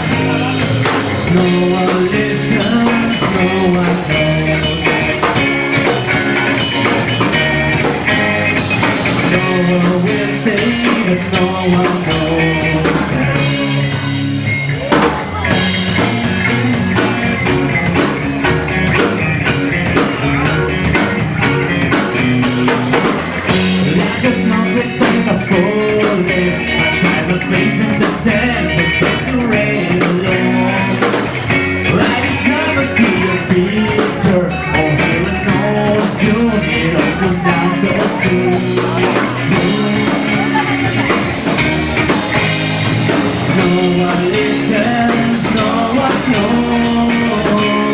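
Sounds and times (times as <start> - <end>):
rock band playing live: 0.0 - 47.9.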